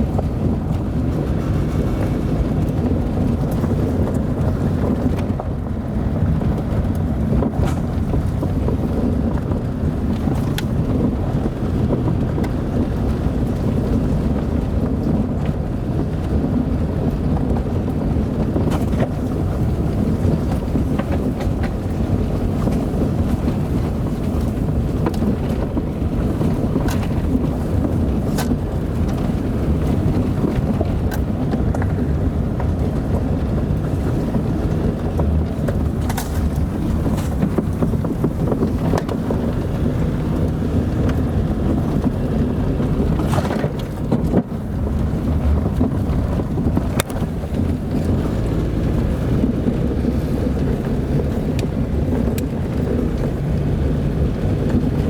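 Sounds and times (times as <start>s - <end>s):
car driving on dirt road: 0.0s - 55.0s
gravel clicks and ticks: 0.0s - 55.0s.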